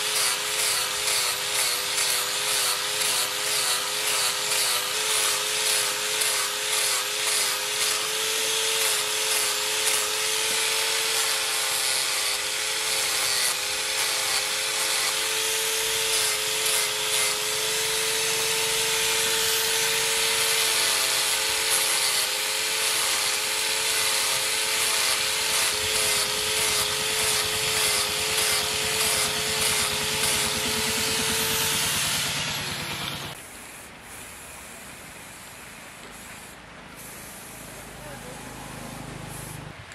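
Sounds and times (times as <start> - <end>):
angle grinder on steel blade: 0.0 - 33.5.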